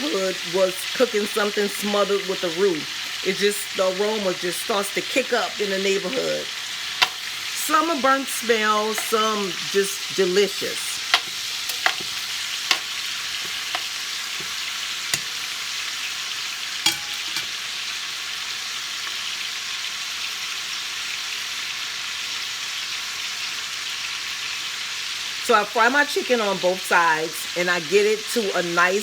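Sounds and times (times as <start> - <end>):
chicken sizzling in grease: 0.0 - 29.0
sharp crackles of frying: 0.0 - 29.0.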